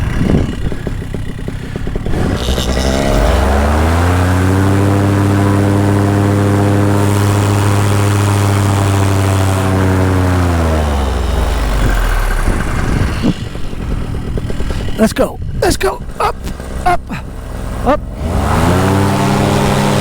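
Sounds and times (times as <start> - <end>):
paramotor engine revving: 0.0 - 20.0.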